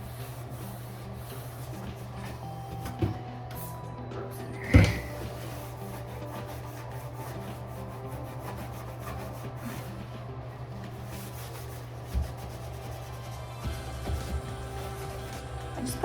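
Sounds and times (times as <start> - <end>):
scratchy rubbing of surface: 0.0 - 2.4, 4.9 - 16.0.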